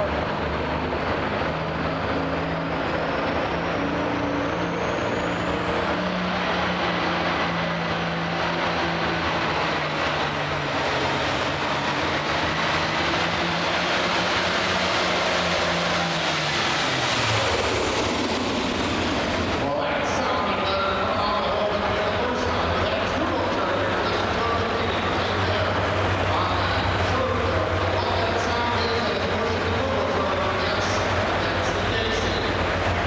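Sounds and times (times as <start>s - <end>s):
diesel engine under load: 0.0s - 33.0s.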